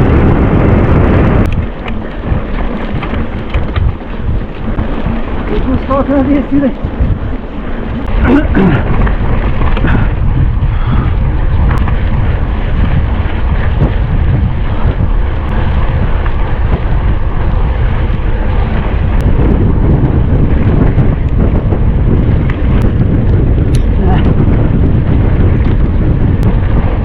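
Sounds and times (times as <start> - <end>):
wind rushing over microphone: 0.0 - 27.0.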